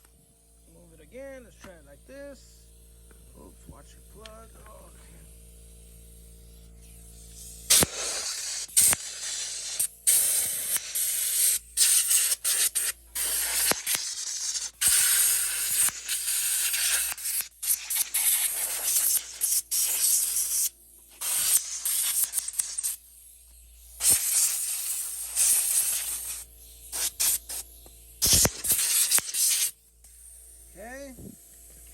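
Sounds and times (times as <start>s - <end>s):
compressed air hissing: 0.4s - 31.9s.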